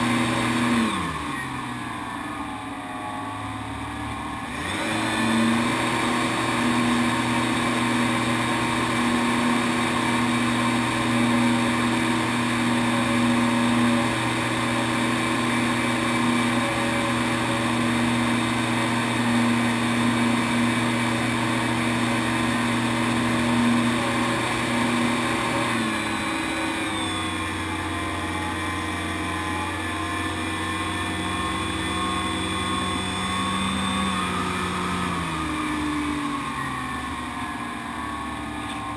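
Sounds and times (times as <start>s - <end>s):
model airplane motor and propeller: 0.0s - 38.9s.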